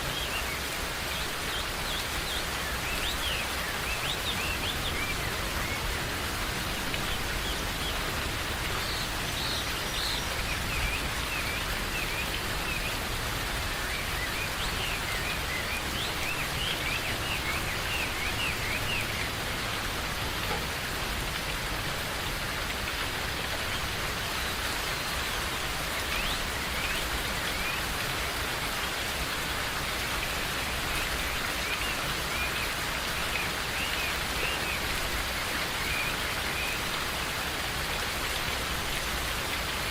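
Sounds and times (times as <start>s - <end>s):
birds chirping: 0.0s - 37.0s
steady rain falling: 0.0s - 39.9s.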